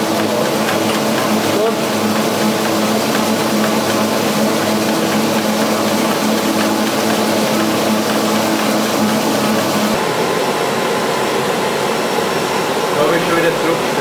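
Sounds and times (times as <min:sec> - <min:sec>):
perforator machine humming: 0:00.0 - 0:14.0.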